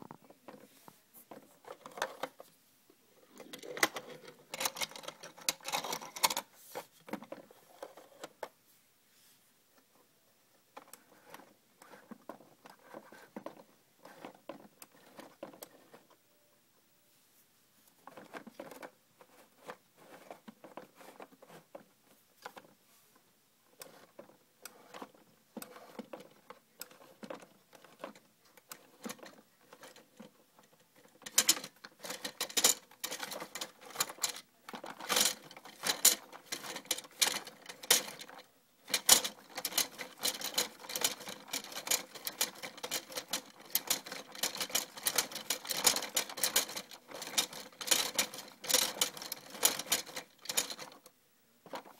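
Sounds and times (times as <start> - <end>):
plastic toy mechanism rattling and clicking: 1.3 - 2.4, 3.3 - 8.4, 10.7 - 16.2, 18.0 - 22.8, 23.8 - 51.9.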